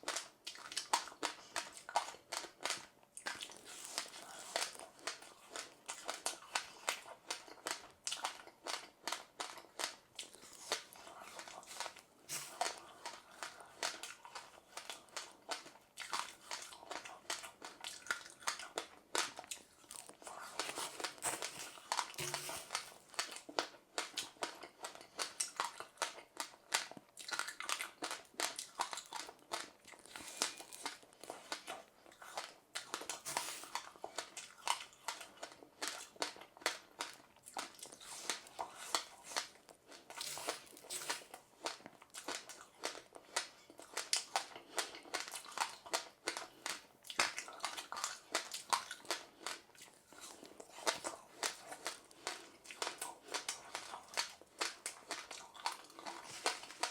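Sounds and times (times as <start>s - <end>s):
chewing crunchy seeds: 0.0s - 56.9s.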